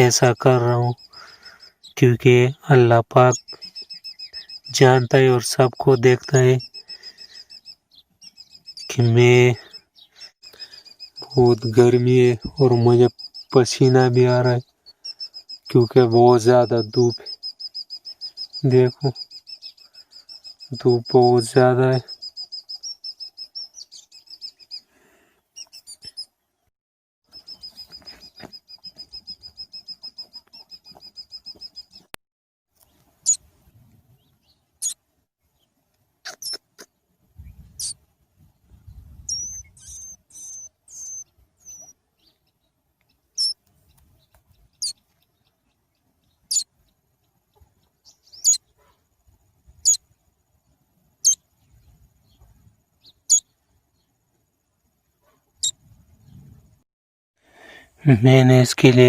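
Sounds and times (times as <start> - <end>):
small bird chirping: 0.0 - 26.7, 27.3 - 32.2, 32.8 - 33.5, 34.1 - 56.8.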